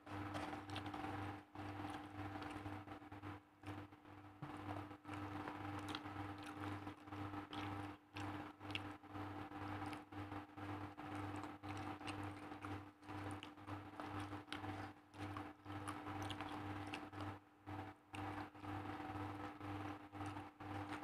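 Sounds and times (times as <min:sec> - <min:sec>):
close-up chewing with crunches: 0:00.0 - 0:21.0.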